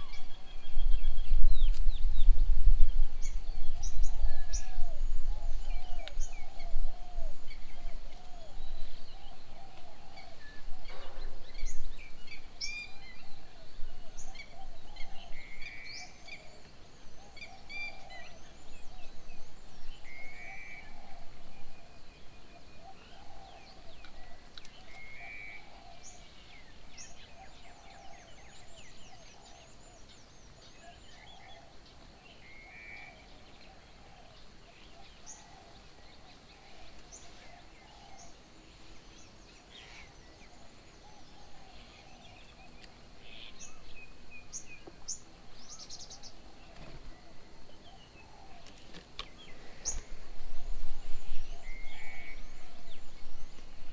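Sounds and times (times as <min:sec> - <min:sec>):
low repeated bird calls: 0:00.0 - 0:53.9.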